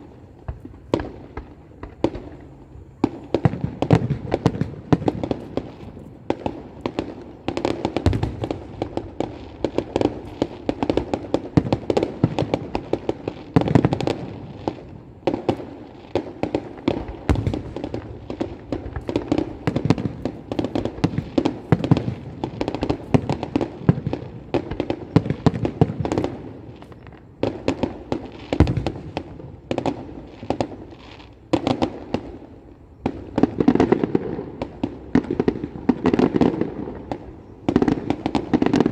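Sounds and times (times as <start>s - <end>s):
firecrackers and fireworks banging: 0.0s - 38.9s.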